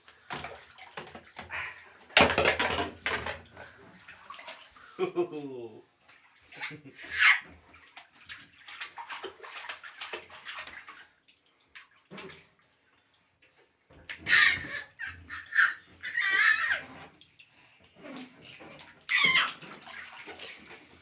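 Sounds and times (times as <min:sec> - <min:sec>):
bathwater splashing in a tub: 0:00.0 - 0:21.0.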